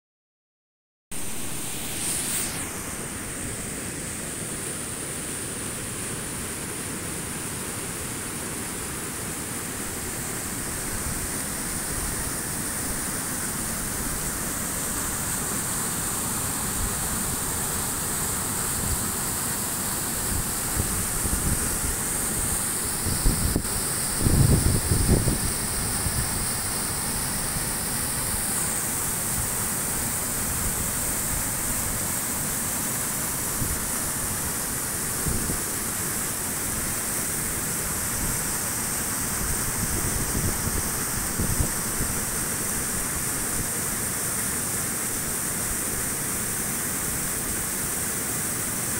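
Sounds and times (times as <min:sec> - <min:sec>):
stream rushing over rocks: 0:01.2 - 0:48.9.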